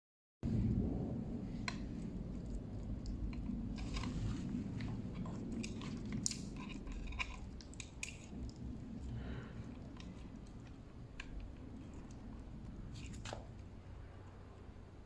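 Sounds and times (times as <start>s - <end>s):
steady low background hum: 0.4s - 15.0s
crackling rustles: 1.5s - 14.6s.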